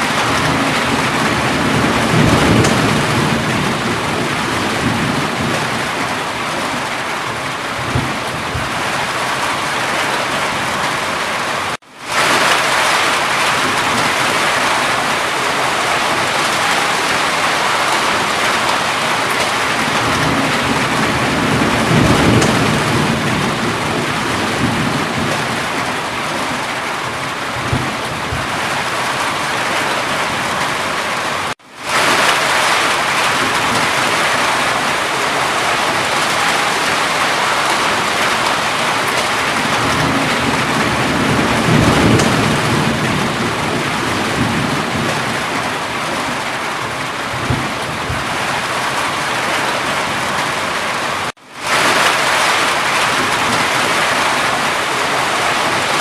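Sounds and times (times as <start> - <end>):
distant thunder rumble: 0.0 - 11.4, 12.1 - 31.0, 31.9 - 56.0
steady rain: 0.0 - 56.0.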